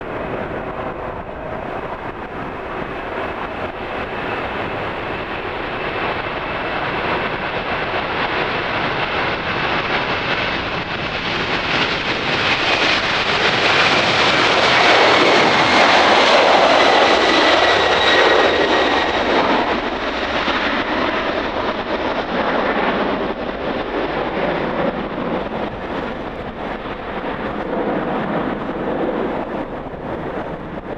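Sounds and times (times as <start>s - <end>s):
high jet whine: 0.0s - 30.9s
jet engines roaring: 0.0s - 30.9s.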